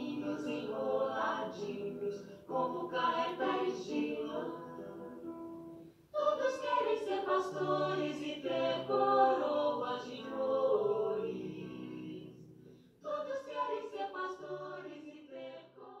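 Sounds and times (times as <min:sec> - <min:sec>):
voices singing together: 0:00.0 - 0:05.4, 0:06.1 - 0:16.0.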